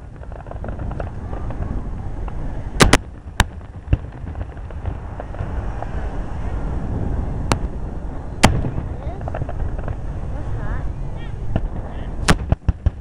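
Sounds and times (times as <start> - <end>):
fireworks bangs: 0.0 - 13.0
low background rumble: 0.0 - 13.0.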